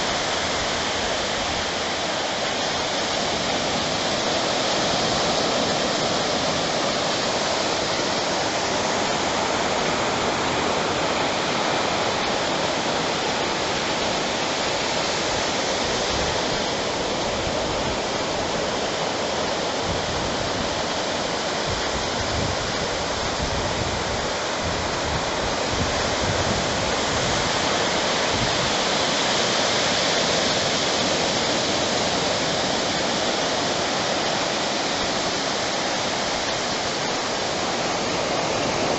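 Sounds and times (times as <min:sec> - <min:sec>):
ocean surf rushing: 0:00.0 - 0:38.9.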